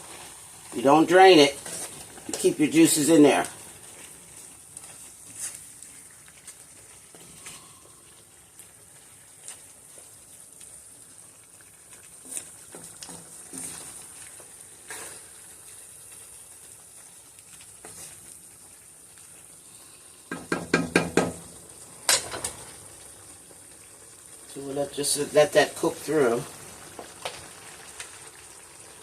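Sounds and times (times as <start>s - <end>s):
beef sizzling in a pan: 0.0s - 29.0s.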